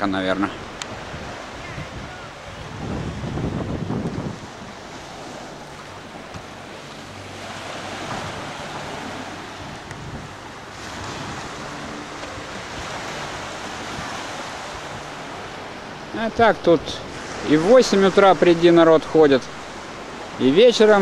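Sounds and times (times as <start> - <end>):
wind on microphone: 0.0 - 17.9
waves washing onto sandy beach: 0.0 - 21.0.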